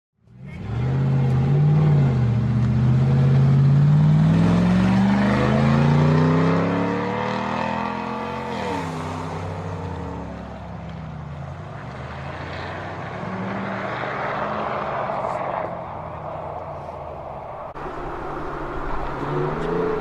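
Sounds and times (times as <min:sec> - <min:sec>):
truck engine accelerating: 0:00.4 - 0:20.0.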